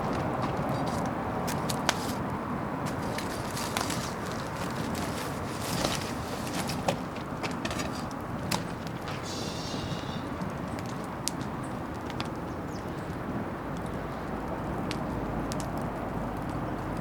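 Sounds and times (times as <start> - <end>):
bonfire burning with crackles: 0.0 - 17.0.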